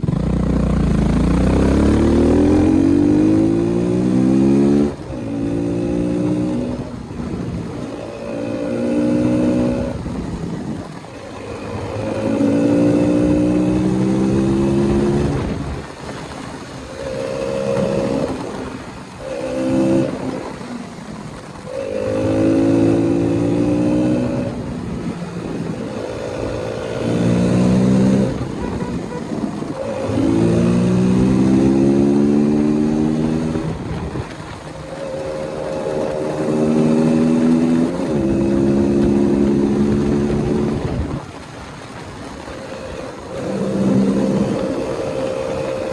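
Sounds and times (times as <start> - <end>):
motorcycle accelerating through gears: 0.0 - 45.9.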